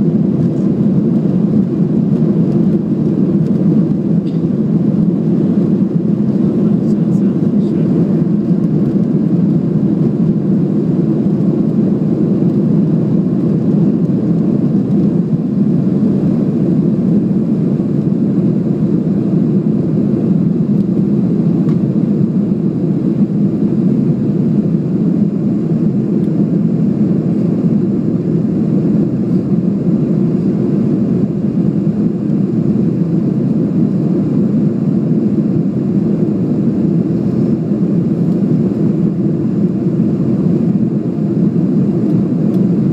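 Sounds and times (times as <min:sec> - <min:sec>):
jet airliner cabin noise: 0:00.0 - 0:42.9.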